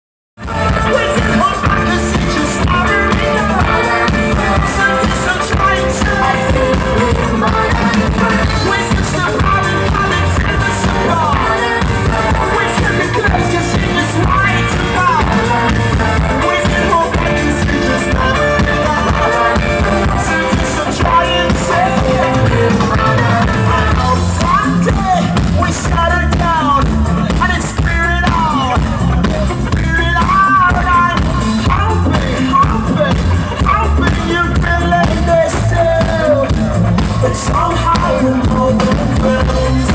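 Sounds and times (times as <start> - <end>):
lead singer singing: 0.4 - 39.9
live rock band playing: 0.4 - 39.9.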